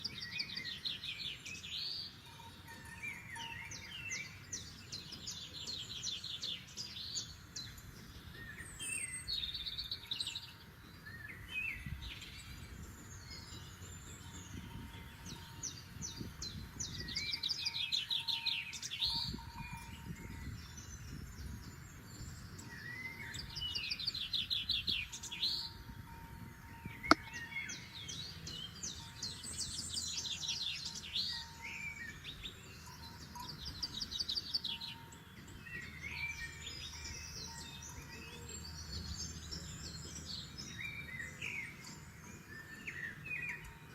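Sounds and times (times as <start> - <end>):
songbirds trilling: 0.0 - 43.9.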